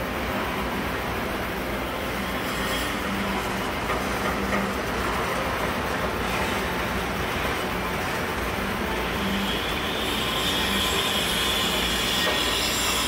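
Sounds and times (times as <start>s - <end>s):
model trains running on track: 0.0s - 13.0s.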